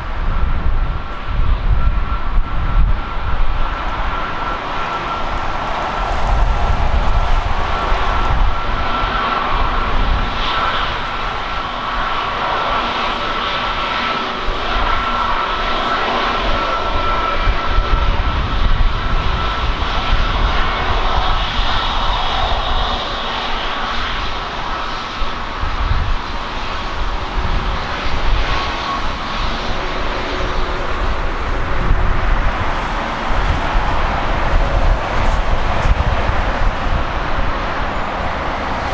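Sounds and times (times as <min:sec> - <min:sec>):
jet engine whine: 0:00.0 - 0:38.9
wind rumbling on microphone: 0:00.0 - 0:38.9.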